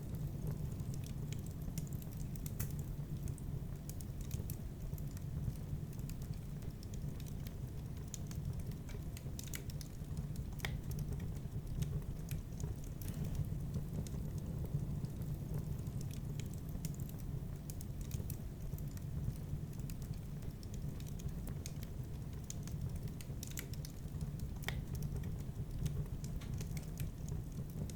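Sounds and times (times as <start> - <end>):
fire crackling and popping: 0.0 - 27.9
low sound of flames: 0.0 - 27.9.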